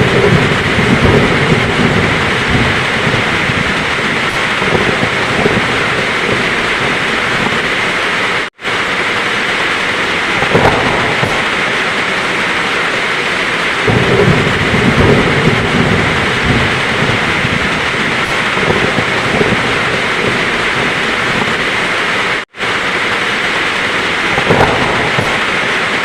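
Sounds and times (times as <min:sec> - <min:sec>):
heavy rain falling: 0:00.0 - 0:26.0
thunder rumbling: 0:00.0 - 0:26.0.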